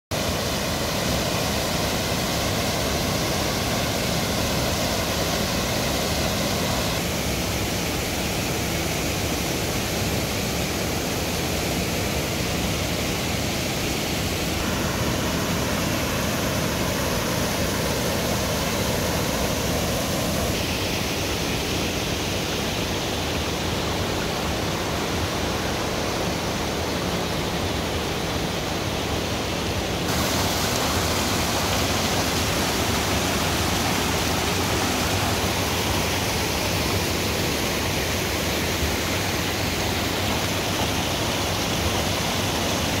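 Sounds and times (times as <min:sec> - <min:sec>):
waterfall rushing: 0:00.1 - 0:43.0.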